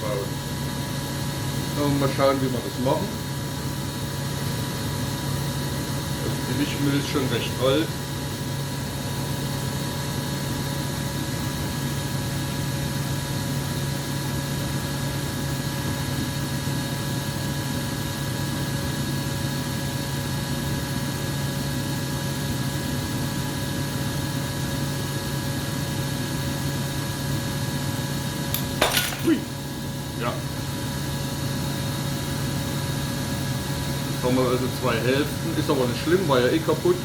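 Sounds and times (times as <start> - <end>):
mechanical hum with low drone: 0.0 - 37.0.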